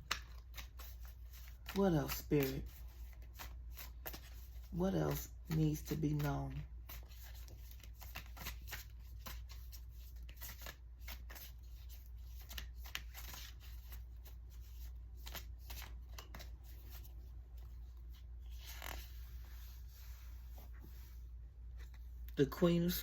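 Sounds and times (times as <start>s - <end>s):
cards shuffling and flicking: 0.0s - 19.3s
cards brushing rustle: 0.0s - 22.2s
low steady hum: 0.0s - 23.0s.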